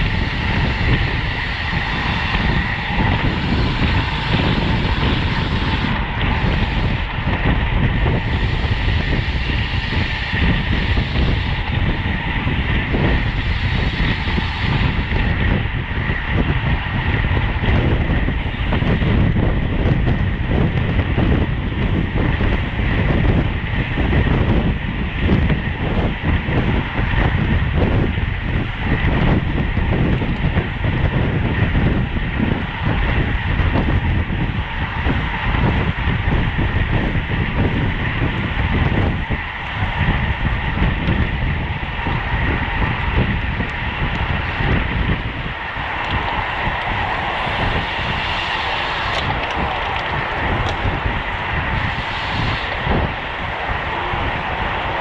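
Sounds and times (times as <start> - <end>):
wind and road noise rushing: 0.0 - 55.0.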